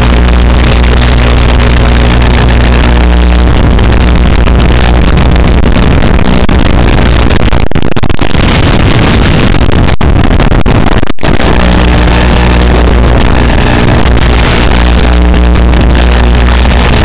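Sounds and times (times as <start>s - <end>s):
buzzing static: 0.0s - 17.0s
low hum: 0.0s - 17.0s.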